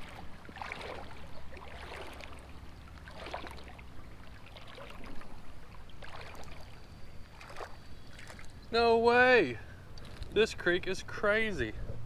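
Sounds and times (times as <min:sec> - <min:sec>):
creek running: 0:00.0 - 0:11.7.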